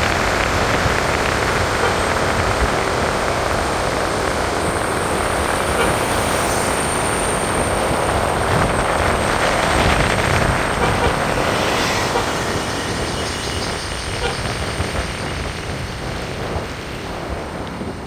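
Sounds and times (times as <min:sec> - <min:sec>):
rushing wind: 0:00.0 - 0:18.0
tyres on the road: 0:00.0 - 0:18.0.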